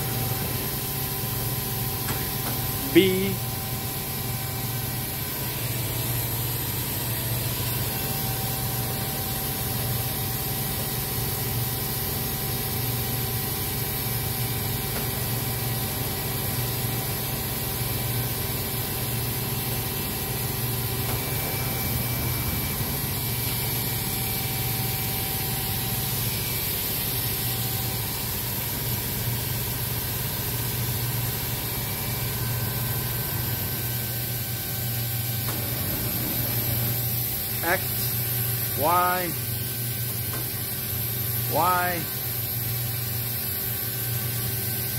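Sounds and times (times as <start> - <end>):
faint motor whines: 0.0 - 38.7
machining center hum and hiss: 0.0 - 44.9.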